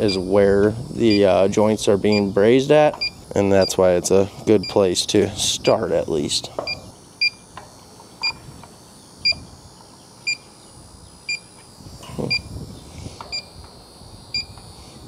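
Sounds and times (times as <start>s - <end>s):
leak detector beeping: 0.0s - 15.0s.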